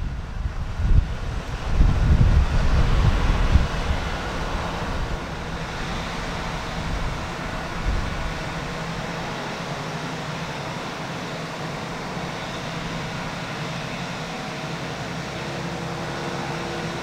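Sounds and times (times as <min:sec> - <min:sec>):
turboprop engine running: 0:00.0 - 0:17.0.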